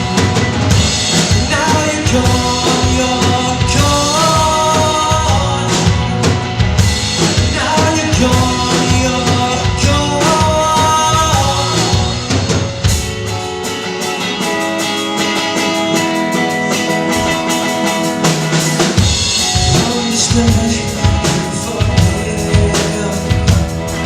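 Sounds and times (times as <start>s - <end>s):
drum kit: 0.0s - 24.0s
live rock band playing: 0.0s - 24.0s.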